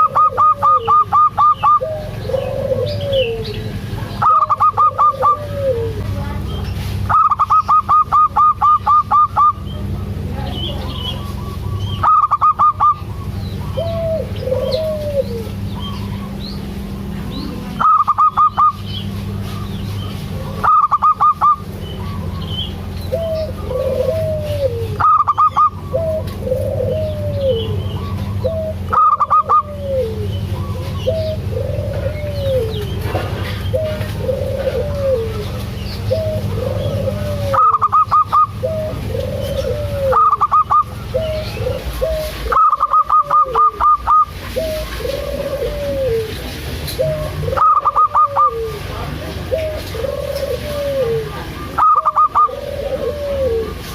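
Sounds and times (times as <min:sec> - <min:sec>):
soft dove coos: 0:00.0 - 0:06.3, 0:06.9 - 0:53.9
doves calling pulsed notes: 0:00.0 - 0:53.9
steady low hum: 0:00.0 - 0:53.9.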